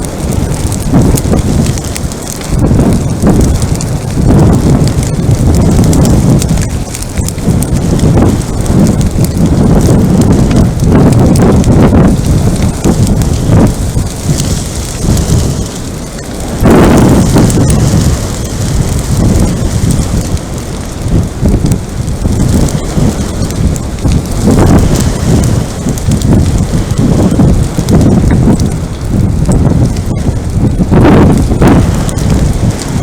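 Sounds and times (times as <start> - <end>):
wildfire rumbling and crackling: 0.0 - 33.0.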